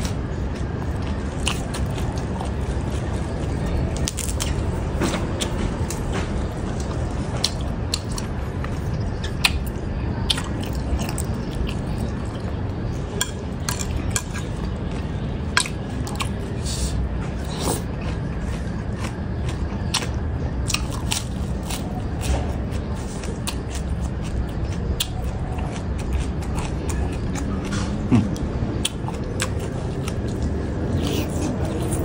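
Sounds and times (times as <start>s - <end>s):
chewing and crunching lettuce: 0.0s - 32.0s.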